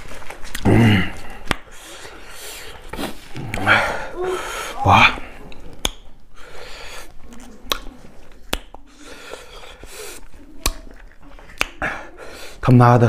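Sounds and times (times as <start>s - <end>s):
chewing and mouth noises: 0.0s - 3.8s, 5.2s - 12.6s.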